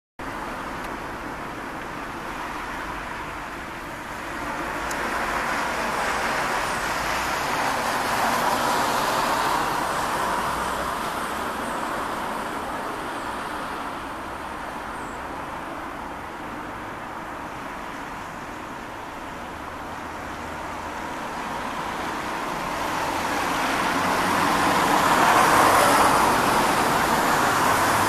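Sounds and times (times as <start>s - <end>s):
distant vehicle noise: 0.2s - 28.0s.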